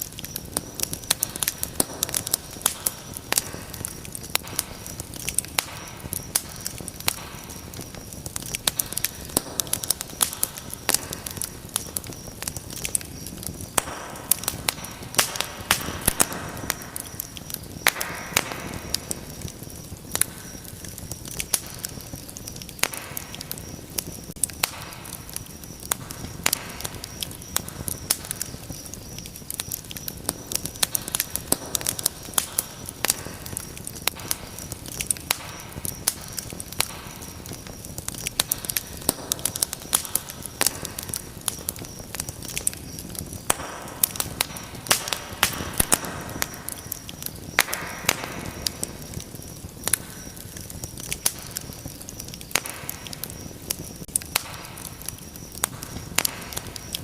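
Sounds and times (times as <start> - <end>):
low hiss of burning: 0.0 - 57.0
wood fire crackling: 0.0 - 57.0.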